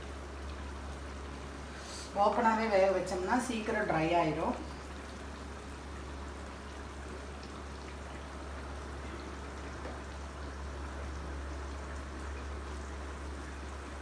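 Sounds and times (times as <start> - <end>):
gravy simmering and bubbling: 0.0 - 14.0.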